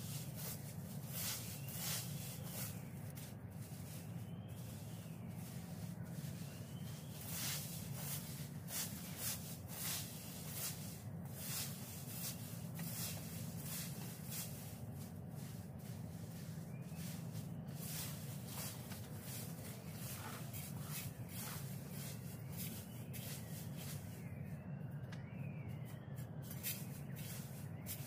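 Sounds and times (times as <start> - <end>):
rake sweeping leaves: 0.0 - 24.6, 25.9 - 28.0
steady low hum: 0.0 - 28.0.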